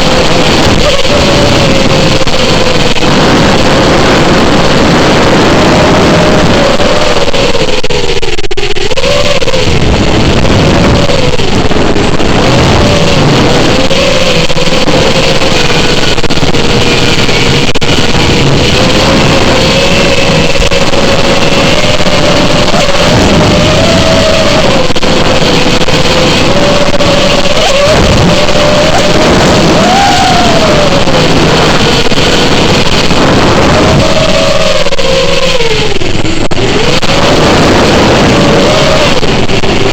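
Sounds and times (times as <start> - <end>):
drone motors whining: 0.0 - 39.9
rushing air: 0.0 - 39.9.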